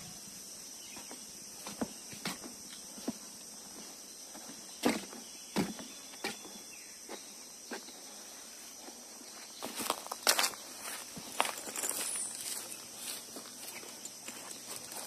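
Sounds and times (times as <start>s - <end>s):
high-pitched background hiss: 0.0s - 15.0s.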